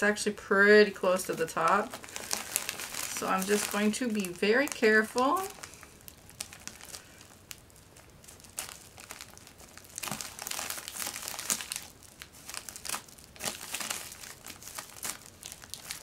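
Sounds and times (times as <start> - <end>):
plastic bag crinkling and rustling: 0.2 - 16.0.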